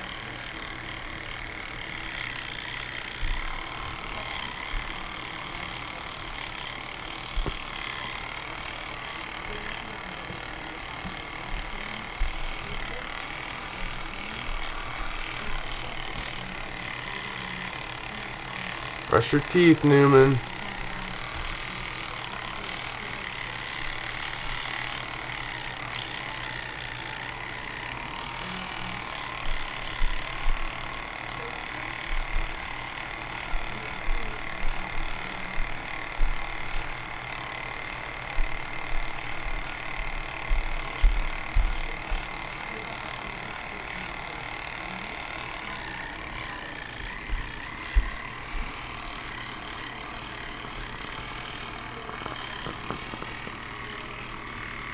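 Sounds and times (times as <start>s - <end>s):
electric toothbrush buzzing: 0.0s - 54.9s.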